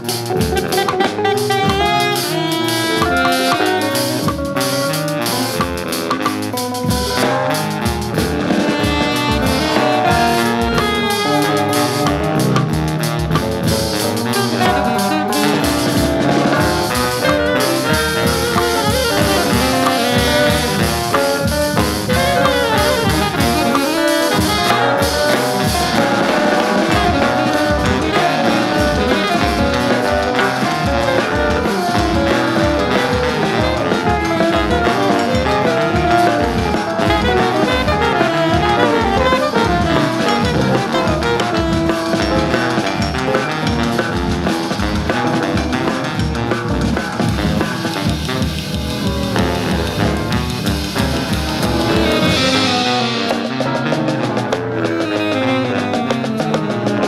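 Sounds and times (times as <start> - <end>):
drum kit beat: 0.0 - 57.0
horn lines: 0.0 - 57.0
jazz band playing swing: 0.0 - 57.0.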